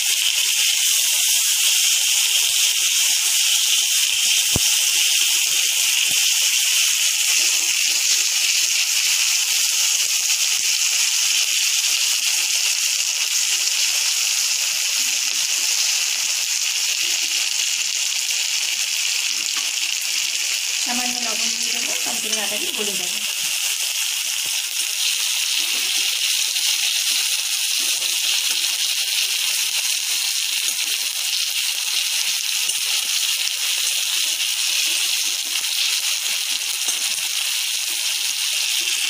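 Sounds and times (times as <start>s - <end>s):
tomato sizzling in hot oil: 0.0s - 39.0s.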